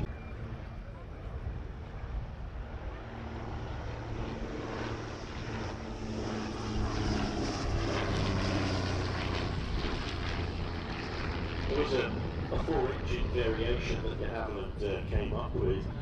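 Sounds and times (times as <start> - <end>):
biplane flying past: 0.0 - 16.0.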